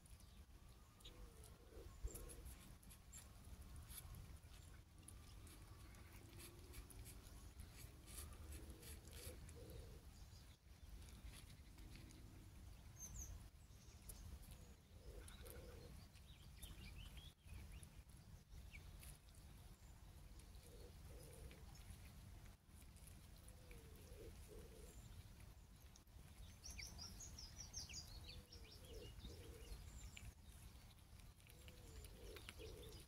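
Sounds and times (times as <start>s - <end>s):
kittens chewing and eating: 0.0s - 33.0s.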